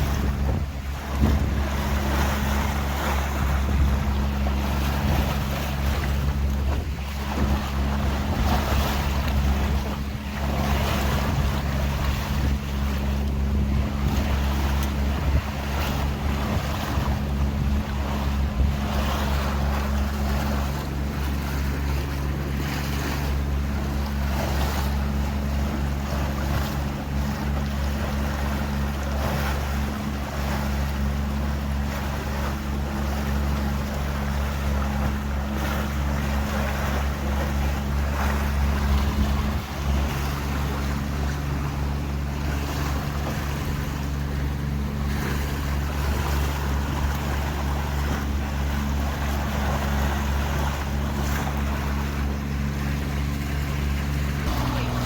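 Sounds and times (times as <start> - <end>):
boat engine humming: 0.0 - 55.0
water rushing past hull: 0.0 - 55.0
wind on microphone: 0.0 - 55.0.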